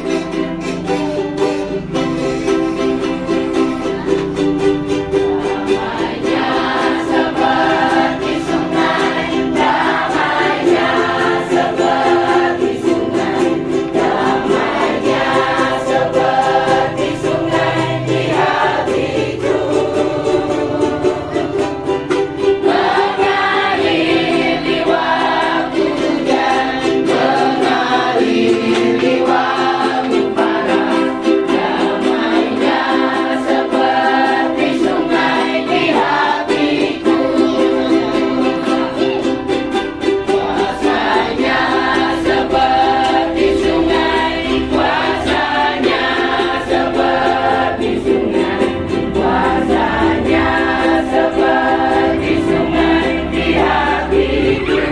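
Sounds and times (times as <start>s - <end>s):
church choir singing a hymn: 0.0s - 0.6s, 1.7s - 54.9s
strummed string instrument: 0.0s - 54.9s.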